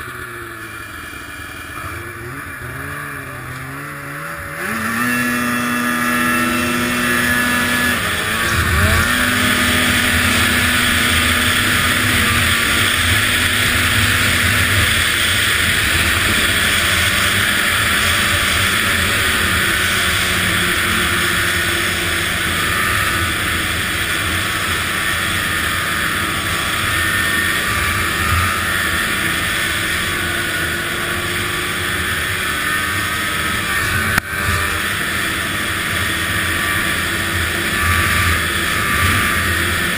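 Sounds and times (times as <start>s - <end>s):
snowmobile engine at high revs: 0.0s - 39.9s.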